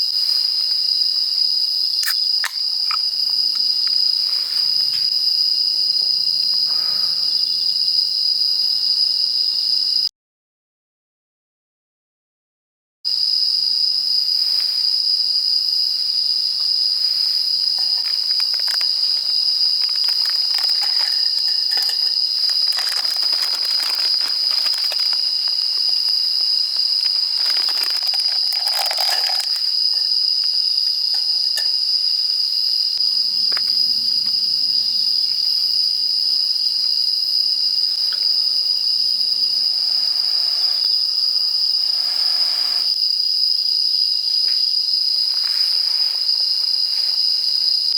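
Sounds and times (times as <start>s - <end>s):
crickets chirring: 0.0s - 10.1s, 13.1s - 47.9s.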